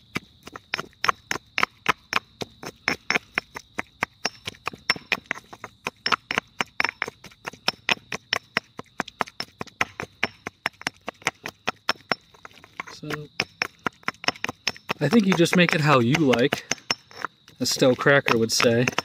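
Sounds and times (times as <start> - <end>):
pestle pounding in stone mortar: 0.0 - 19.0.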